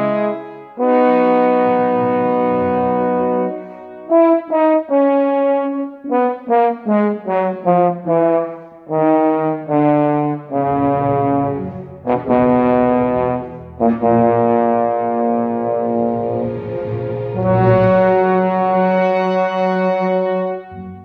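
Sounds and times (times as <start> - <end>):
solo bass trombone: 0.0 - 21.0.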